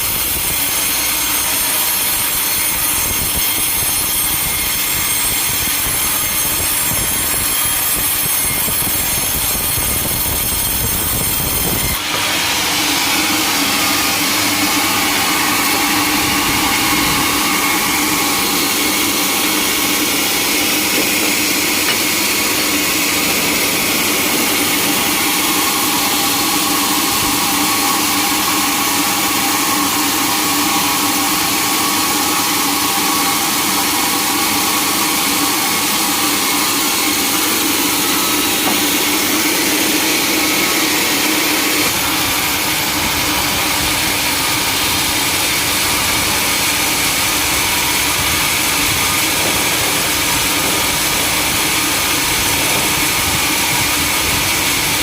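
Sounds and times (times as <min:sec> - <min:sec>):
sawmill machinery drone: 0:00.0 - 0:55.0
machinery whining: 0:00.3 - 0:55.0.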